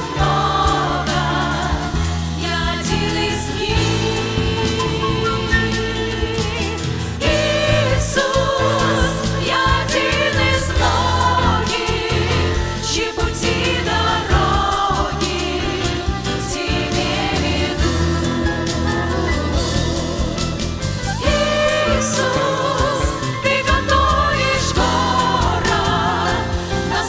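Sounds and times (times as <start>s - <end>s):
bass accompaniment: 0.0s - 27.0s
group of voices singing: 0.0s - 27.0s
praise band playing: 0.0s - 27.0s.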